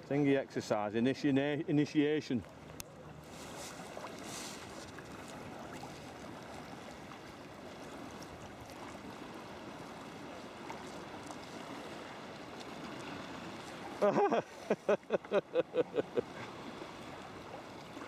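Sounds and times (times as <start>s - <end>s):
water sloshing around kayak hull: 2.3s - 18.0s.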